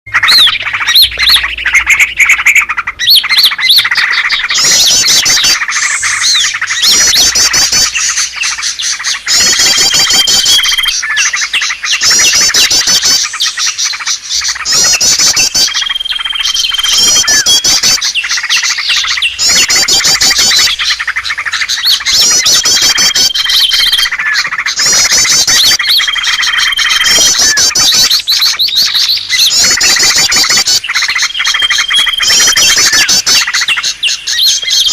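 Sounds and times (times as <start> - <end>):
small birds chirping and trilling: 0.1 - 34.9.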